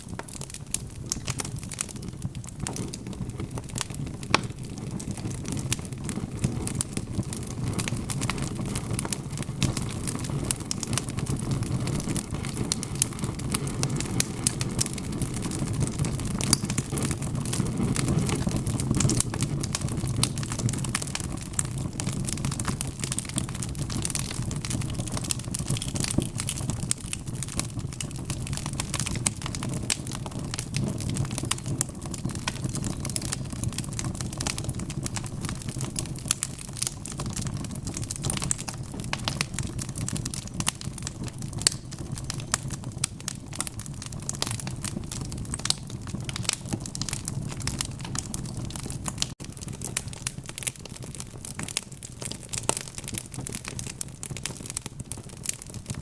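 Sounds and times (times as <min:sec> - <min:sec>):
log fire crackling and popping: 0:00.0 - 0:56.0
low rumble of flames: 0:00.0 - 0:56.0.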